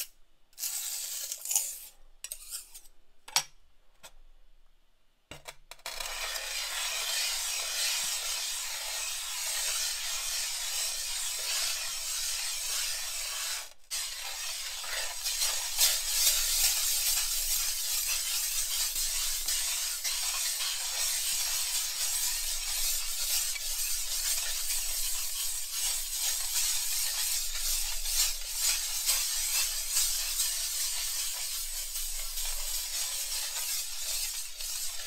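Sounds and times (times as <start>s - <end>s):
glass muller grinding paint: 5.9s - 35.0s.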